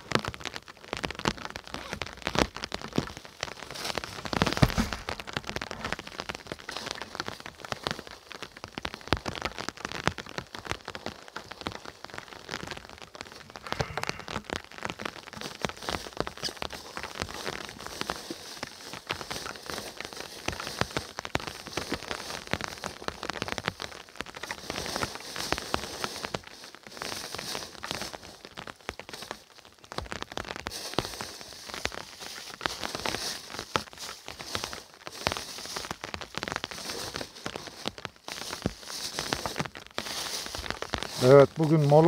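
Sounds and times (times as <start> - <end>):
rain on leaves: 0.0 - 42.0
raindrops hitting close by: 0.0 - 42.0.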